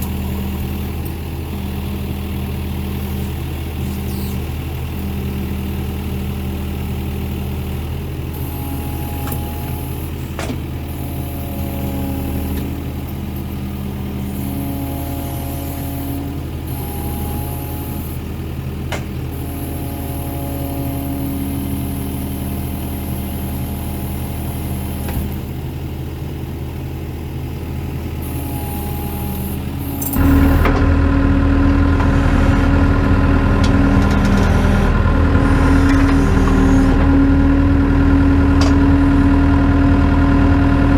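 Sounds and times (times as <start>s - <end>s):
skid steer engine running: 0.0s - 40.9s.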